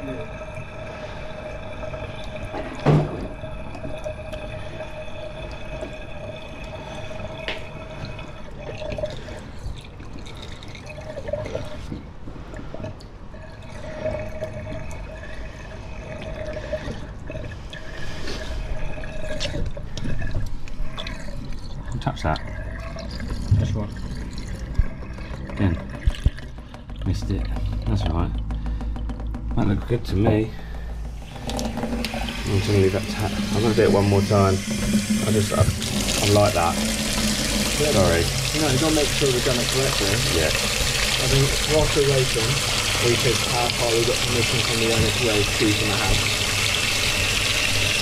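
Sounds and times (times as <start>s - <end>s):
water gurgling down sink drain: 0.0s - 48.0s.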